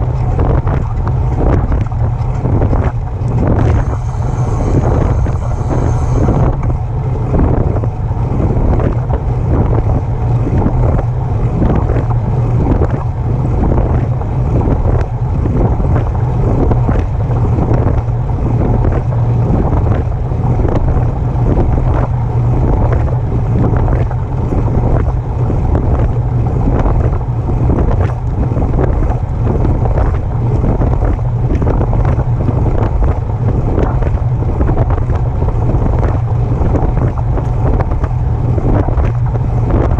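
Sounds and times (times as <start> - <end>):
bike drivetrain rhythmic noise: 0.0 - 39.9
wind rumble on microphone: 0.0 - 39.9.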